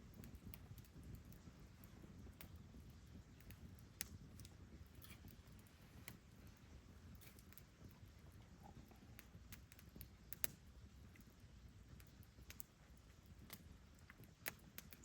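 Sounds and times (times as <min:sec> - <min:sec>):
wood fire crackling pops: 0:00.0 - 0:15.0.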